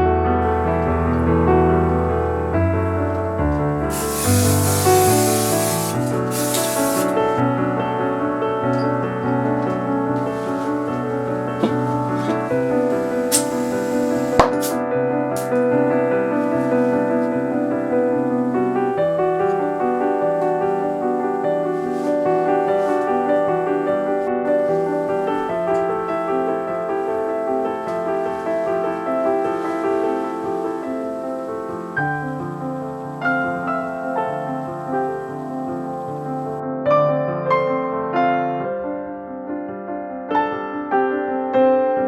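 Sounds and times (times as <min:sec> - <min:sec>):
background piano music: 0:00.0 - 0:42.0.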